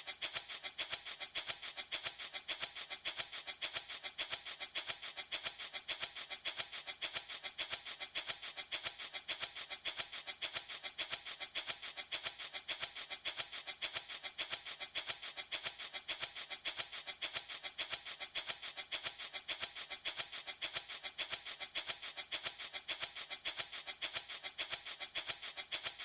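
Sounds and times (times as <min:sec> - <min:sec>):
baby rattle shaken: 0:00.0 - 0:26.0.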